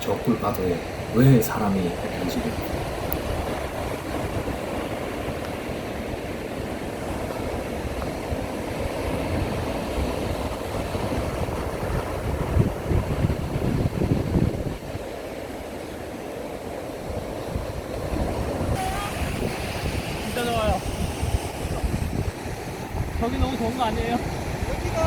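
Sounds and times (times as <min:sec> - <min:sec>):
ocean surf: 0:00.0 - 0:25.0
wind buffeting microphone: 0:00.0 - 0:25.0.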